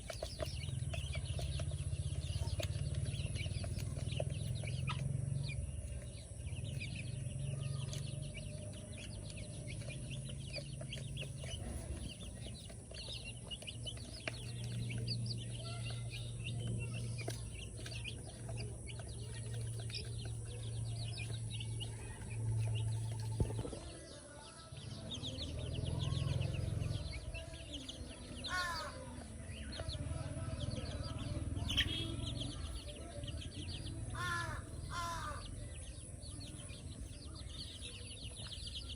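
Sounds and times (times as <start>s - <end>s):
chickens clucking: 0.0s - 38.9s
harsh bird calls: 0.0s - 38.9s.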